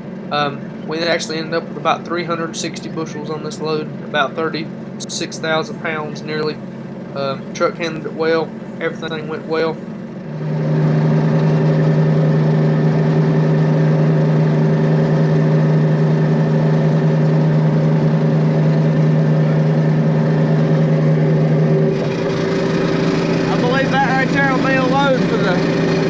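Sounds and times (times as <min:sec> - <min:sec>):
large engine humming steadily: 0:00.0 - 0:26.0.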